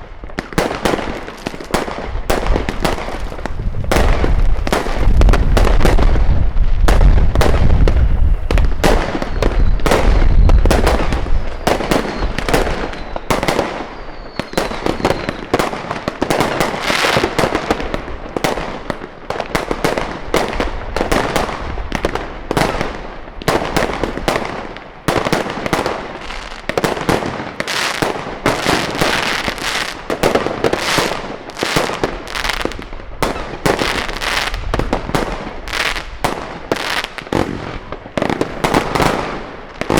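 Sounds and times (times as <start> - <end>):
deep firework booms: 0.0 - 39.9
fireworks bangs and crackling: 0.0 - 39.9.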